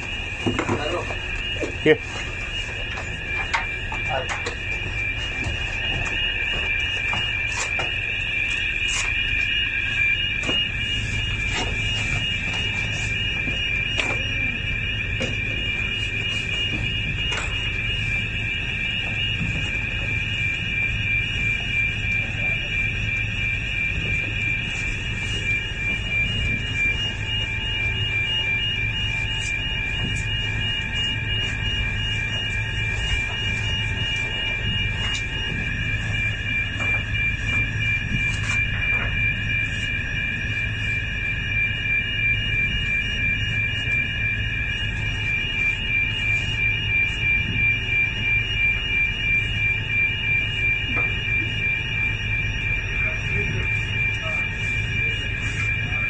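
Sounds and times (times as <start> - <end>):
high-pitched electronic alarm tone: 0.0 - 56.0.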